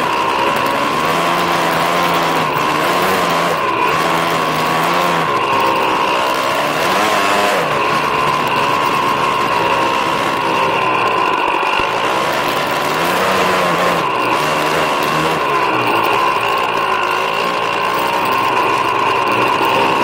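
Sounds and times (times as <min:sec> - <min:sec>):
snow bike engine revving: 0:00.0 - 0:20.0.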